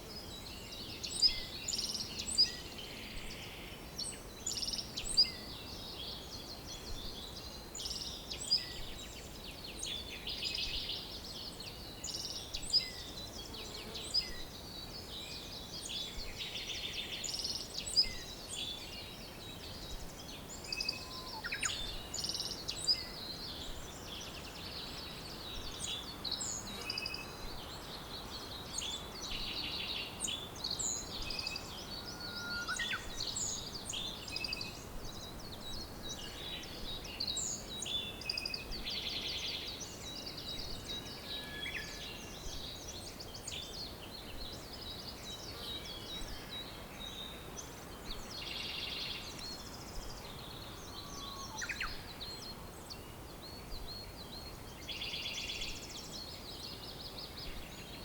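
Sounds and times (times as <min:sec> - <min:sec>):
songbirds chirping and singing: 0:00.0 - 0:58.0
steady background hiss: 0:00.0 - 0:58.0.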